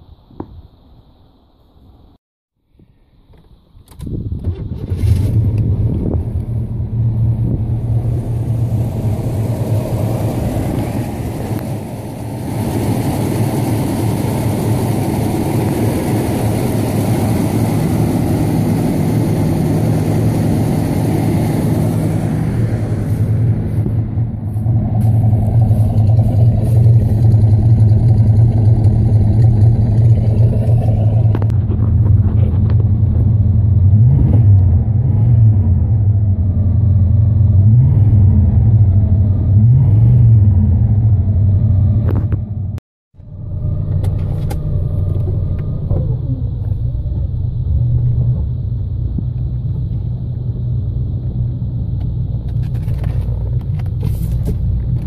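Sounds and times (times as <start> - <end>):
car engine running: 3.3 - 55.0.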